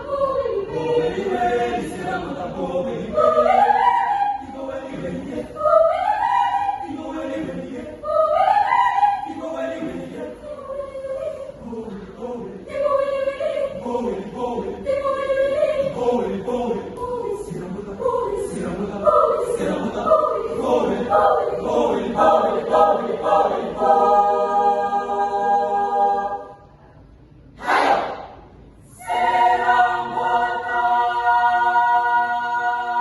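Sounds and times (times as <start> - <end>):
choir singing: 0.0 - 26.8, 27.6 - 33.0.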